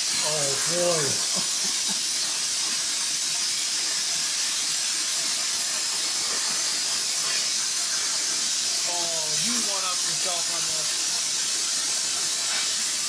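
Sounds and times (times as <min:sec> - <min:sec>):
plasma cutter hissing: 0:00.0 - 0:13.0.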